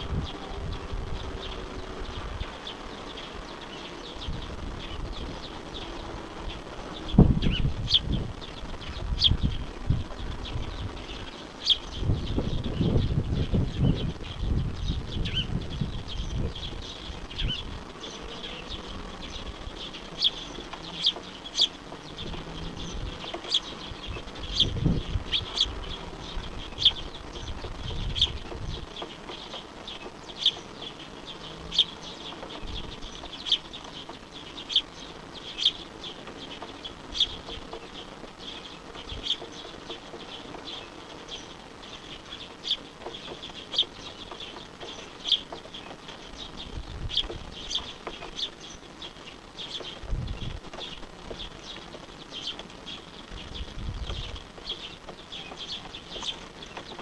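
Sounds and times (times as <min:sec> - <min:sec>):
small bird chirping: 0:00.0 - 0:57.0.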